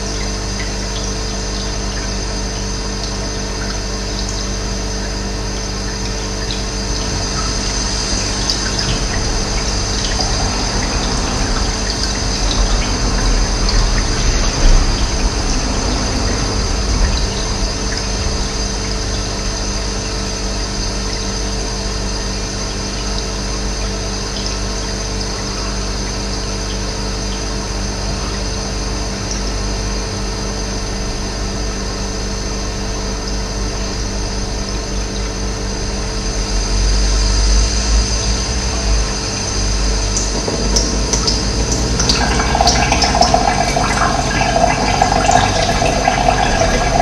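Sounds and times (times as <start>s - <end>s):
running water rushing: 0.0s - 29.2s, 36.5s - 47.0s.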